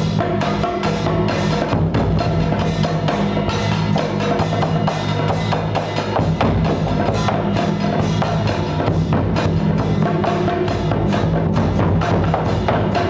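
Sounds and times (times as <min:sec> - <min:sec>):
rapid drum strikes: 0:00.0 - 0:13.0.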